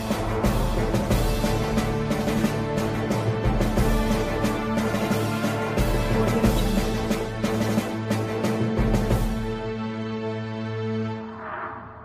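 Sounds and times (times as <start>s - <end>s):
intro theme music: 0.0s - 12.0s.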